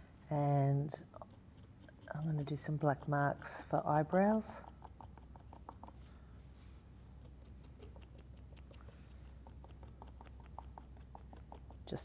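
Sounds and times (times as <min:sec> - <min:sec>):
marker ticking on hard surface: 0:01.0 - 0:06.1, 0:07.1 - 0:12.0.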